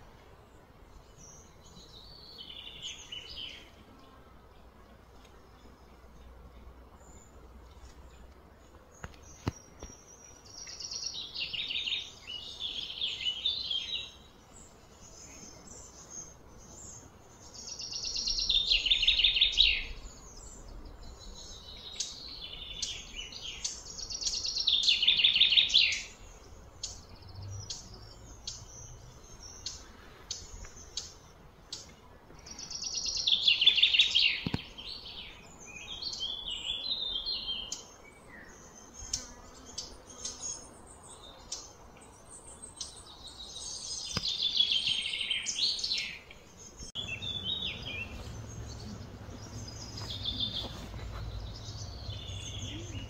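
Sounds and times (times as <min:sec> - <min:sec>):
bird trilling song: 0:09.0 - 0:53.0.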